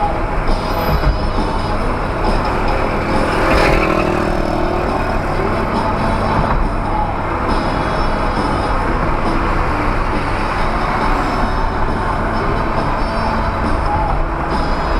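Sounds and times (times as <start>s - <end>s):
motor vehicle running: 0.0s - 14.9s.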